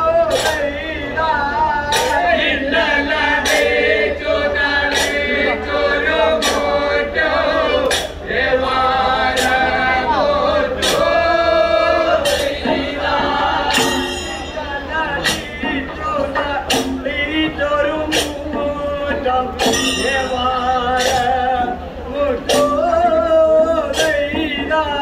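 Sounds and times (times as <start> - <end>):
men singing folk song: 0.0 - 25.0
sharp percussion strikes: 0.0 - 25.0.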